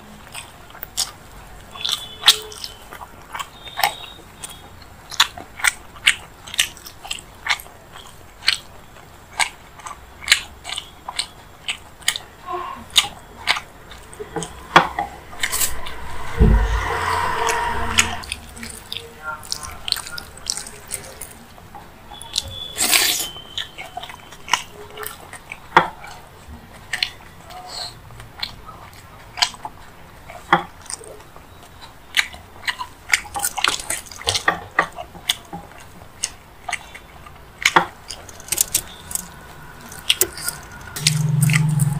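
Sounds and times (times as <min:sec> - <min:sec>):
wet chewing and lip smacks: 0:00.2 - 0:12.3, 0:12.9 - 0:15.0, 0:18.6 - 0:41.9.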